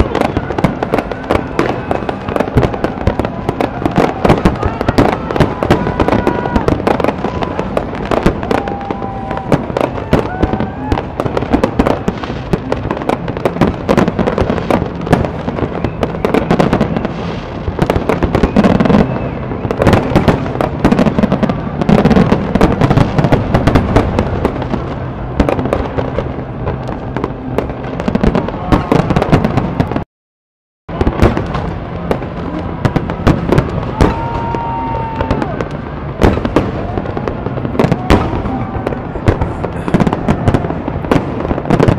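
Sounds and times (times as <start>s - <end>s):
fireworks bursting and crackling: 0.0s - 30.0s, 30.9s - 41.9s
fireworks whistling: 0.0s - 30.0s, 30.9s - 41.9s.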